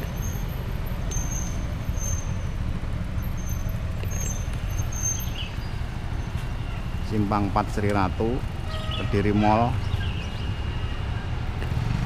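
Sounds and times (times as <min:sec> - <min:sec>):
road traffic idling: 0:00.0 - 0:12.0.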